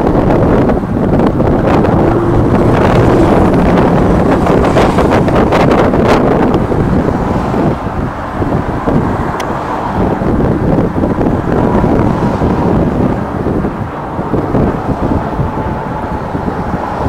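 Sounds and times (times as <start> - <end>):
road traffic passing: 0.0 - 17.0
wind buffeting microphone: 0.0 - 17.0.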